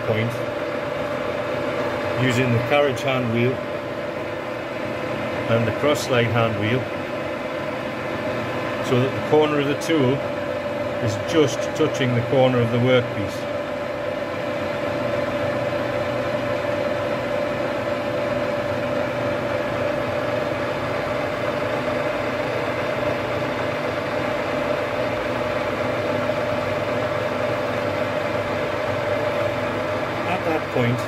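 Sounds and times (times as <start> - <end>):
metal lathe humming: 0.0 - 31.0.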